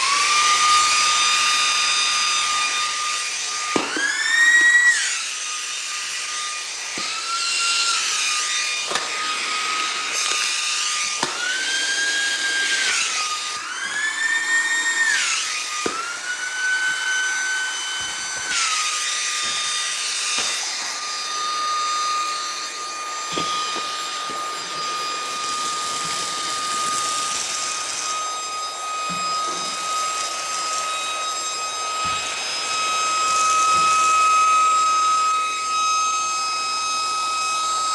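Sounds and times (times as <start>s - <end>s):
vacuum cleaner motor whining: 0.0s - 37.9s.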